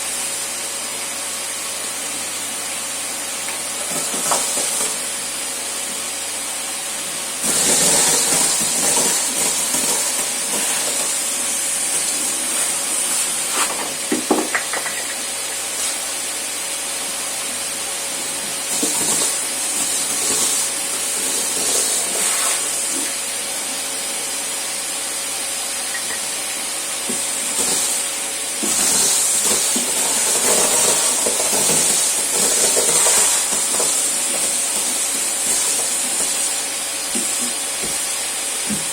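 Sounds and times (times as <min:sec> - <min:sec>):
vacuum cleaner hissing and whining: 0:00.0 - 0:38.9.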